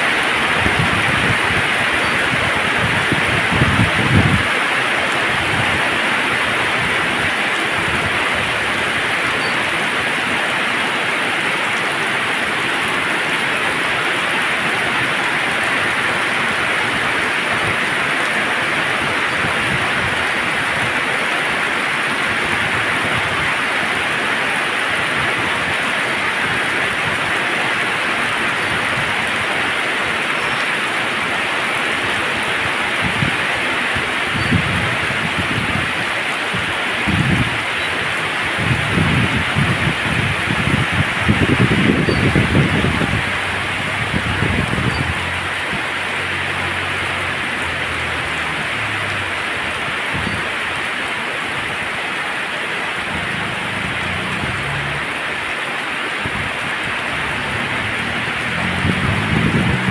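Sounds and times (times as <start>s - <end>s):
heavy rain on roofs and pavement: 0.0s - 59.9s.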